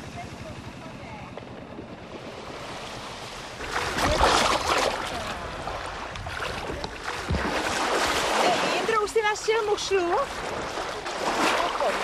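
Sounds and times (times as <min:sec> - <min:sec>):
sea water sloshing: 0:01.8 - 0:12.0.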